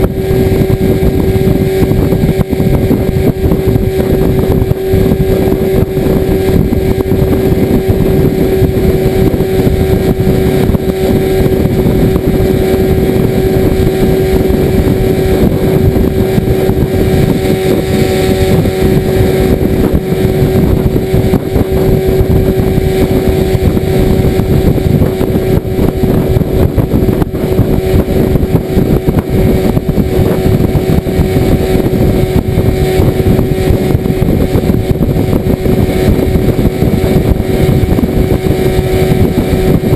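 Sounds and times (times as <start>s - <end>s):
outboard motor droning: 0.0s - 39.9s.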